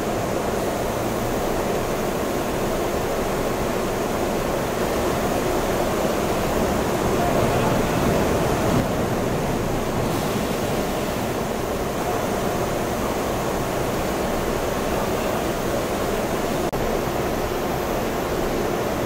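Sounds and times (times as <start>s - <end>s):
electric arc furnace roaring: 0.0s - 17.4s.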